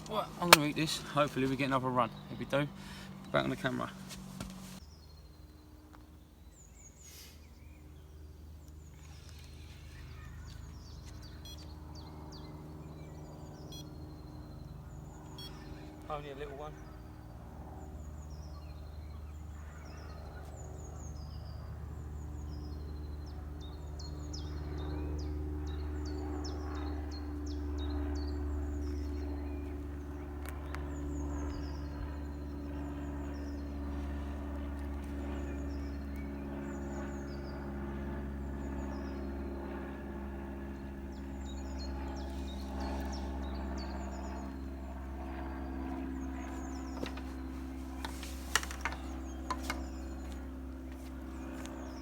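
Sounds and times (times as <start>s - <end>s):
low mechanical hum: 0.0s - 52.0s
small birds chirping: 0.0s - 52.0s.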